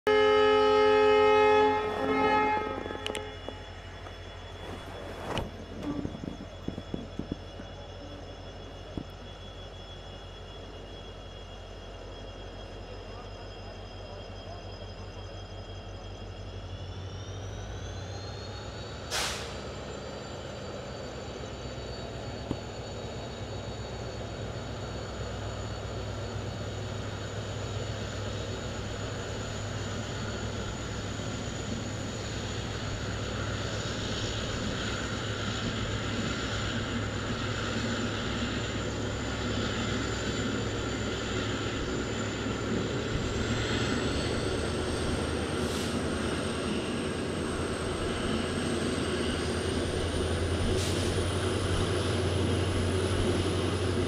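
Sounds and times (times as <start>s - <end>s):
train running noise: 0.1s - 54.0s.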